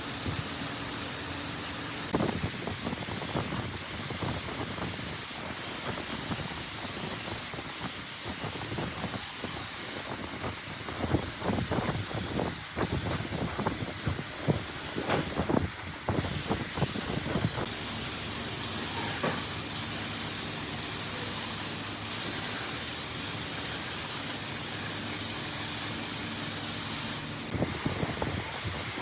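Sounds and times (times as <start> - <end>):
spray gun hissing: 0.0 - 1.2, 2.2 - 10.3, 10.9 - 29.0.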